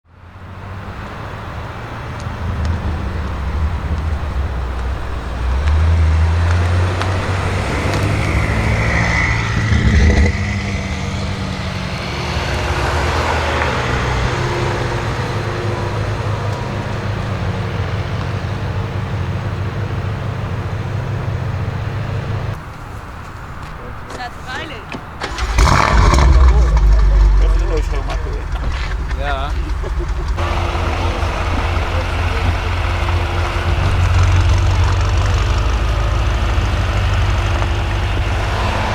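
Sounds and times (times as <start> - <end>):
car engine droning at low revs: 0.0 - 22.6, 25.2 - 38.9.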